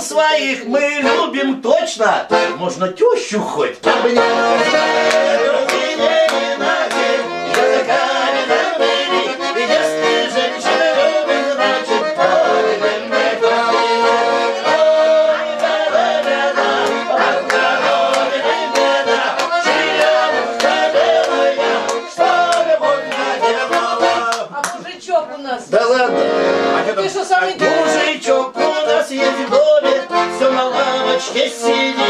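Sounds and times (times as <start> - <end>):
button accordion playing melody: 0.0 - 32.0.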